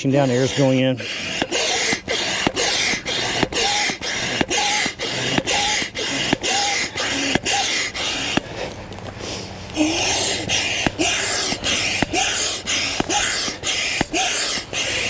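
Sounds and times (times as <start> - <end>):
hand pump rush of air: 0.0 - 15.0
pump squeak: 0.0 - 15.0.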